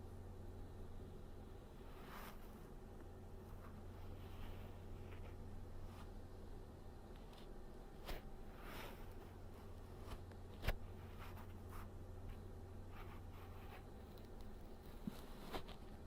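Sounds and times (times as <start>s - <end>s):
steady low hum: 0.0s - 16.0s
rustling near microphone: 1.8s - 16.0s.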